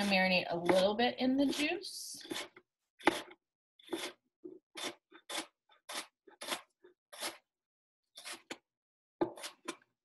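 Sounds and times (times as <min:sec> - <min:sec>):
knife chopping onion: 0:00.0 - 0:07.5, 0:08.1 - 0:08.6, 0:09.2 - 0:09.9.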